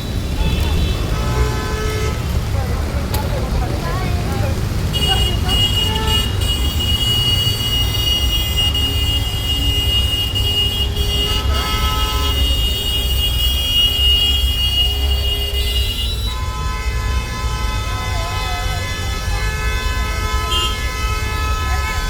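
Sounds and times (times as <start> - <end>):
traffic low rumble: 0.0 - 22.0.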